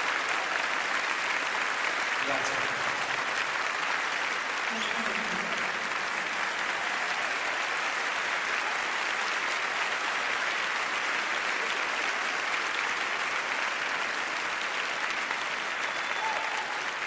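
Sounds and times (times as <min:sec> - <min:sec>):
large audience applauding: 0:00.0 - 0:17.0.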